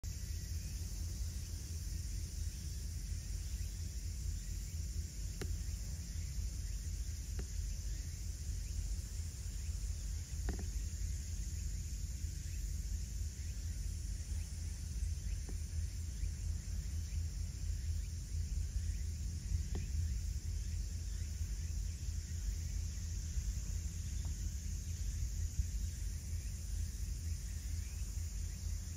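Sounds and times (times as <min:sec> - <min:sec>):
faint high hiss: 0:00.0 - 0:28.9
steady low rumble: 0:00.0 - 0:28.9
faint ticks: 0:03.5 - 0:28.9.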